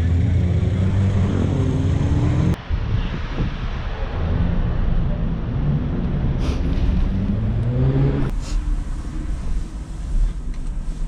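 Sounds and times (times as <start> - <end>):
wind rumbling on microphone: 0.6 - 11.0.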